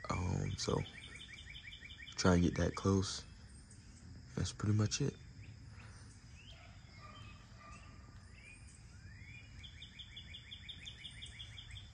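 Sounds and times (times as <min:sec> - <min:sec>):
wild birds chirping: 0:00.0 - 0:11.9.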